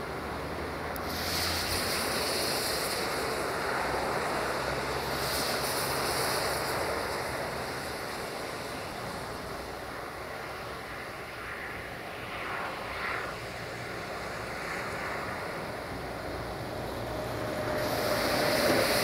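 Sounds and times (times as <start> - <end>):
distant locomotive engine drone: 0.0 - 19.0
high hiss: 0.0 - 19.0
rushing noise: 0.0 - 19.0.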